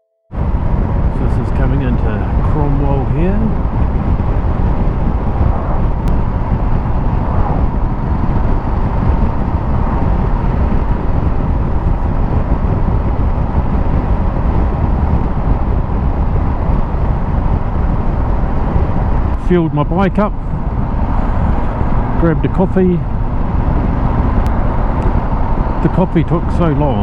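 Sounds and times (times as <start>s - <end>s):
wind and road noise from motorcycle: 0.3s - 27.0s.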